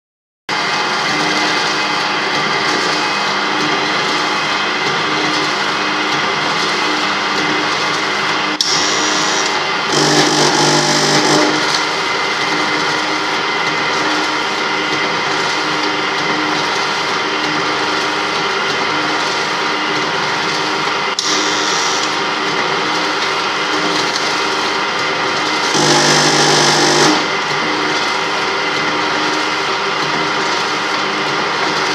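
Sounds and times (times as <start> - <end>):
packaging machine running: 0.6 - 31.9.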